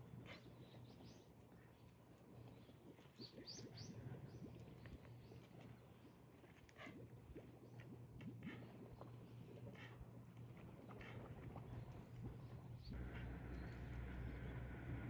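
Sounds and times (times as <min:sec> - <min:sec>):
faint birds chirping: 0:00.0 - 0:15.0
low steady hum: 0:00.0 - 0:15.0.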